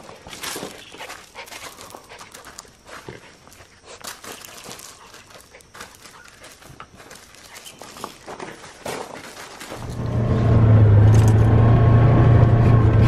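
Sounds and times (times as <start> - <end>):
gravel crunching underfoot: 0.0 - 11.6.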